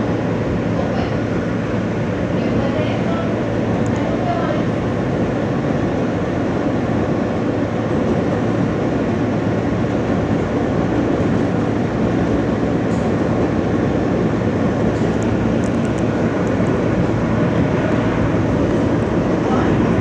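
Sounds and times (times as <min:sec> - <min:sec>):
subway wheels rumbling on rails: 0:00.0 - 0:20.0.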